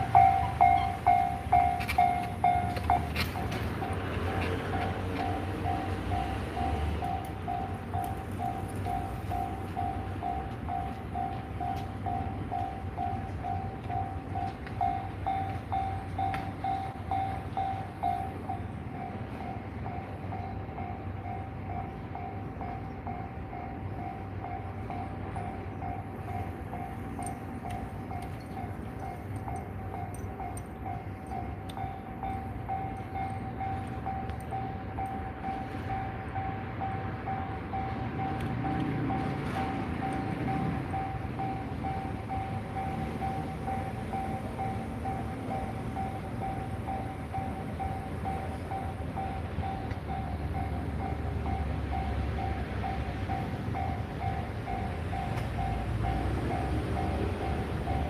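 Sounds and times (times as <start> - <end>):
level-crossing bell ringing: 0.0 - 3.9, 4.7 - 58.0.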